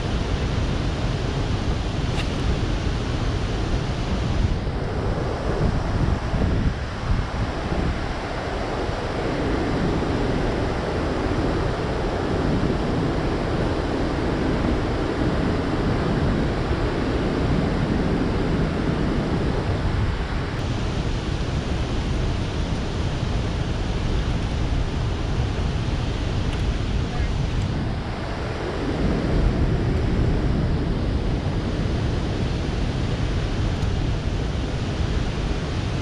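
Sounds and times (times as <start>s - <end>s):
turbulent water rushing: 0.0s - 36.0s
wind buffeting microphone: 0.0s - 36.0s.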